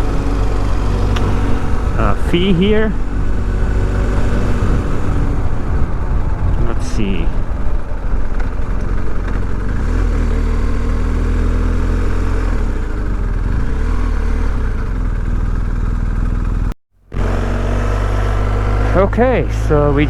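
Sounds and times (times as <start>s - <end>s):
motorcycle engine idling: 0.0s - 11.2s, 12.4s - 20.0s.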